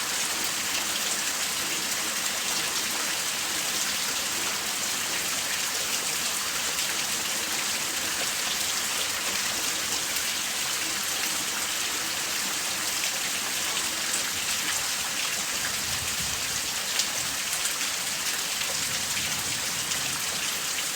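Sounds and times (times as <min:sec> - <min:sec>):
steady rain: 0:00.0 - 0:20.9.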